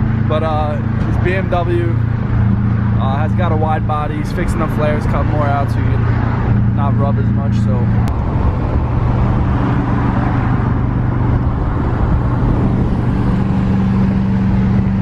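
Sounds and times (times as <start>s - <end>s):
car exhaust drone: 0.0s - 15.0s
road noise: 0.0s - 15.0s.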